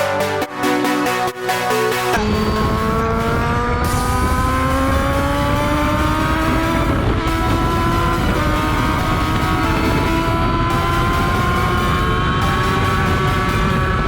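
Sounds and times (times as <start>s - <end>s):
motorcycle engine accelerating: 2.2s - 14.0s
wind noise: 2.2s - 14.0s.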